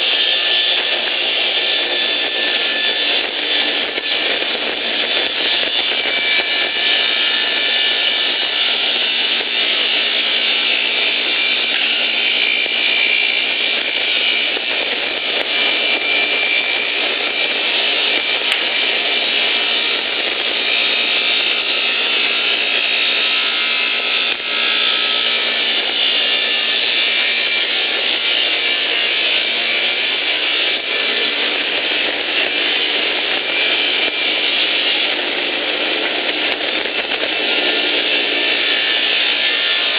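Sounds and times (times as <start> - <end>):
sawing machine cutting logs: 0.0 - 39.9.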